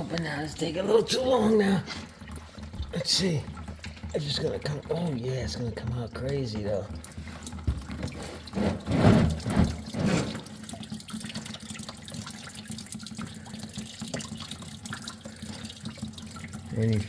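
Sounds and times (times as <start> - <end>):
liquid gushing and splashing: 0.0 - 17.0.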